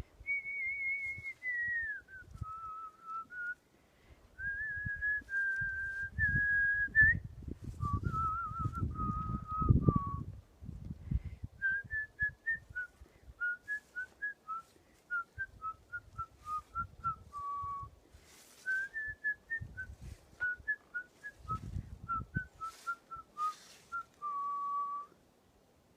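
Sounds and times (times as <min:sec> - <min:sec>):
person whistling a melody: 0:00.3 - 0:03.6, 0:04.4 - 0:10.3, 0:11.6 - 0:25.1.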